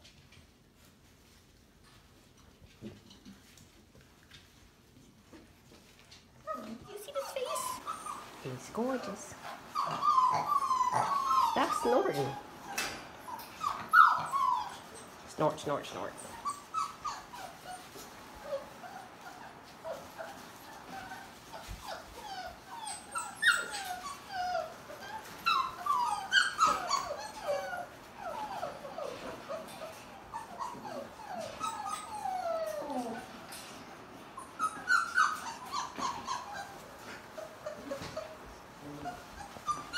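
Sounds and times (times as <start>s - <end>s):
puppy whimpering: 5.7s - 39.9s.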